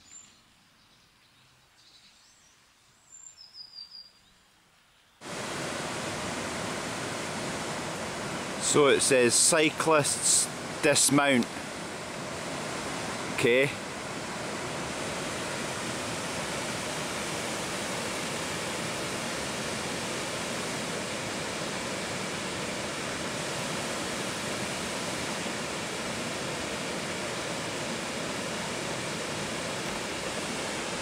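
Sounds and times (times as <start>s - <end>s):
water rushing: 5.2s - 31.0s.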